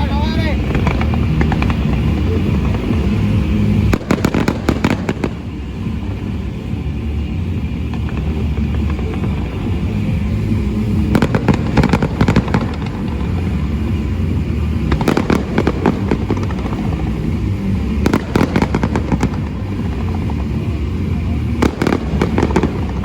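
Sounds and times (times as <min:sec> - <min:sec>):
fireworks crackling: 0:00.0 - 0:23.0
low rumble: 0:00.0 - 0:23.0.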